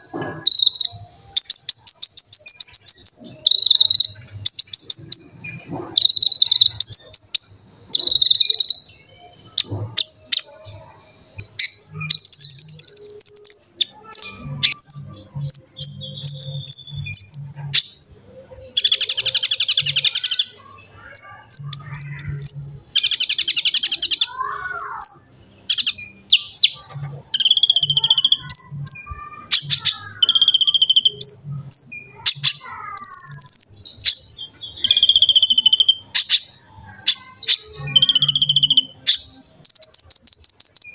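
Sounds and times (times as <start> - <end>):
sunbird chirping and whistling: 0.2 - 40.9.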